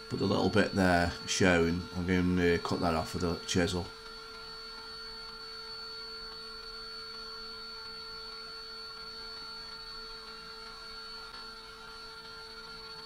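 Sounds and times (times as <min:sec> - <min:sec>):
wood router high whine: 0:00.0 - 0:13.0.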